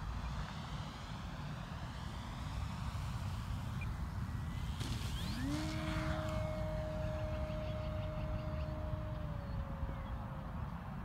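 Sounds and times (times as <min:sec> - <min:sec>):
distant model plane motor whine: 0:00.0 - 0:11.0
wind rumble on microphone: 0:00.0 - 0:11.0.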